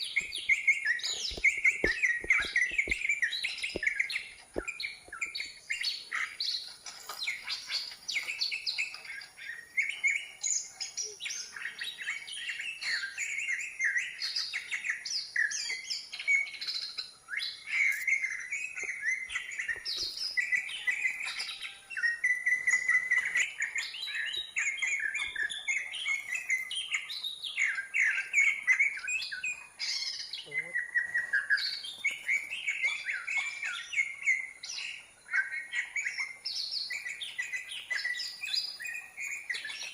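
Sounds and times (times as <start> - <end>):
birdsong chirps and trills: 0.0 - 39.9.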